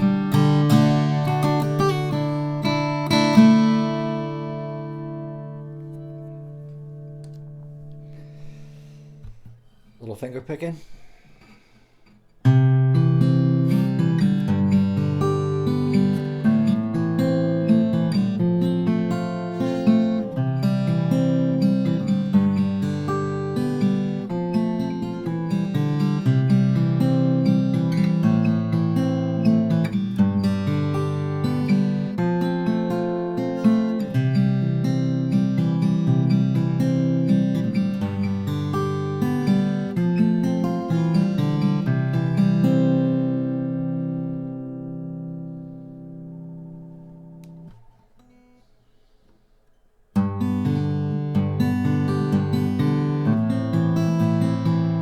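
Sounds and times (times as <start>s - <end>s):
fingerstyle acoustic guitar: 0.0s - 55.0s.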